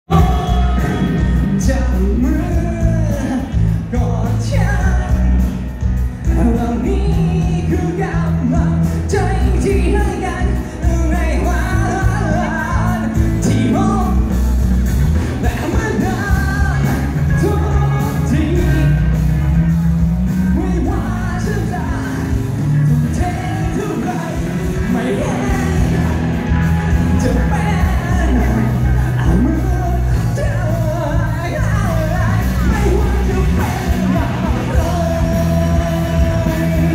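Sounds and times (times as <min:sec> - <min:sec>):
live band with singer: 0:00.0 - 0:36.9.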